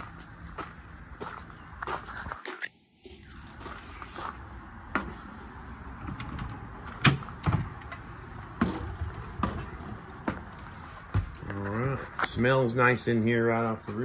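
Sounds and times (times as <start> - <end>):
footsteps on entry steps: 0.0 - 12.5.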